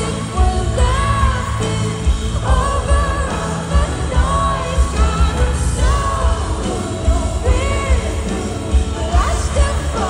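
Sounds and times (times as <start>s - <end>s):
live pop band: 0.0s - 10.0s
woman singing into a microphone: 0.0s - 10.0s.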